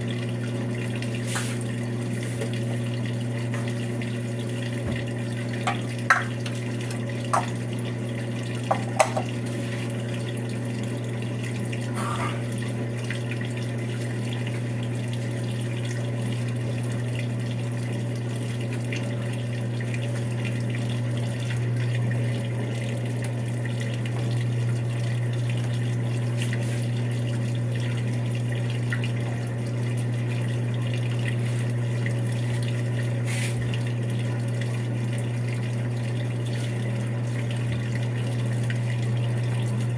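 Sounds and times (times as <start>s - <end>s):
low electric hum: 0.0s - 39.9s
water flowing through washing machine: 0.0s - 39.9s.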